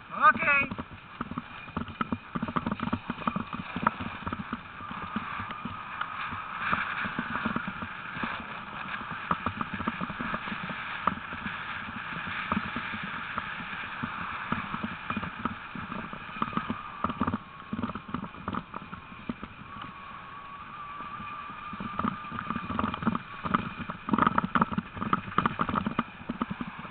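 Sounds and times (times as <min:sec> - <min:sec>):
low background rumble: 0:00.0 - 0:26.9.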